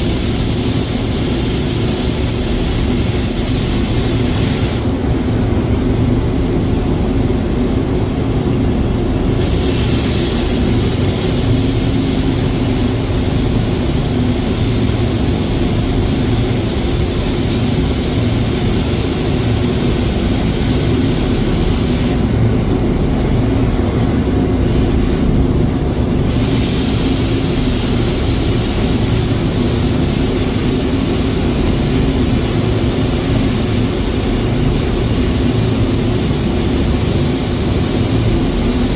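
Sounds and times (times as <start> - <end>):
hiss: 0.0 - 4.9, 9.4 - 22.3, 24.6 - 25.4, 26.1 - 38.9.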